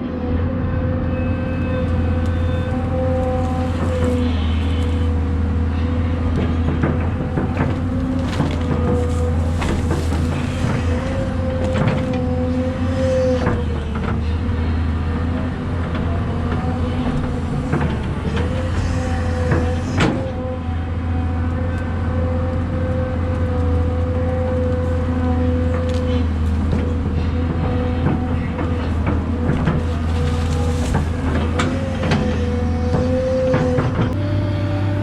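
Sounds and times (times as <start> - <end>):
diesel engine rumble: 0.0 - 35.0
hydraulic whine: 0.0 - 35.0.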